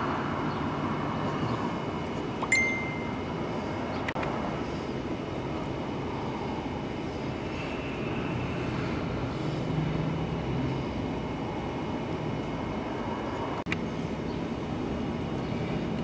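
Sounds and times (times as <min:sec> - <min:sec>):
engine rumble: 0:00.0 - 0:16.0.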